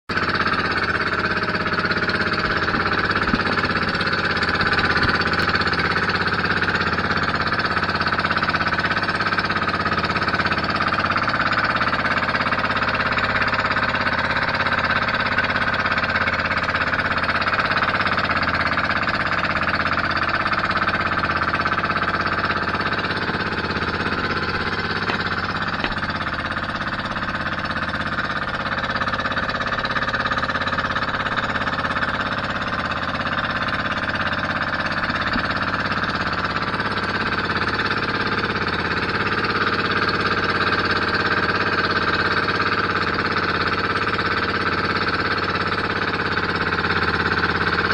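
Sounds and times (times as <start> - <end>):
boat engine running: 0.1 - 47.9.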